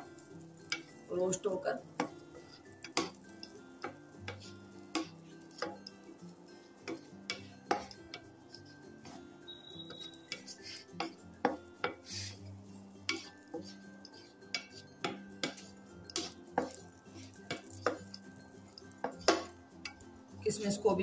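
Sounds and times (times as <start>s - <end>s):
utensil scraping a pan: 1.9s - 5.9s, 6.6s - 20.0s.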